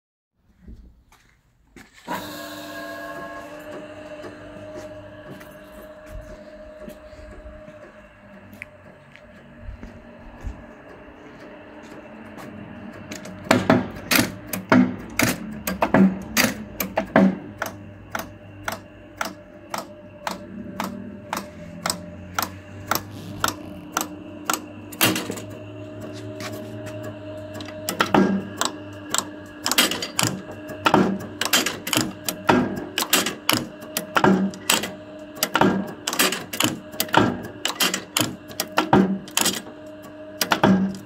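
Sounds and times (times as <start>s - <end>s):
press motor and flywheel humming: 2.0s - 41.0s.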